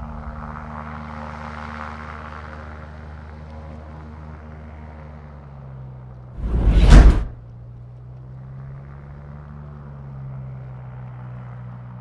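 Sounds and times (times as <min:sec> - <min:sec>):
airboat engine drone: 0:00.0 - 0:06.3, 0:07.3 - 0:12.0.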